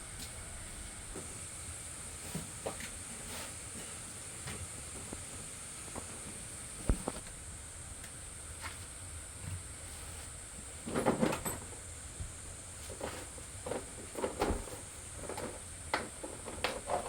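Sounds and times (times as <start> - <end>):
steady high-pitched hiss: 0.0 - 17.0.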